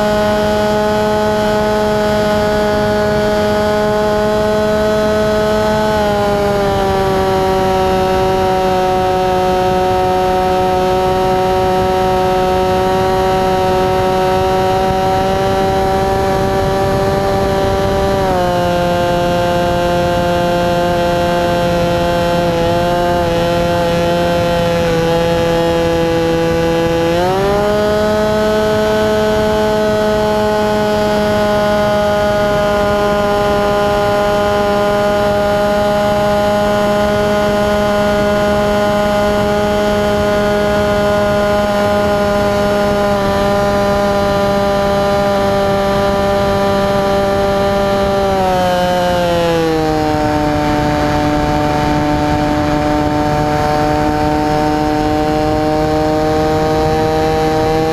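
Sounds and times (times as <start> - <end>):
model airplane motor and propeller: 0.0 - 57.9.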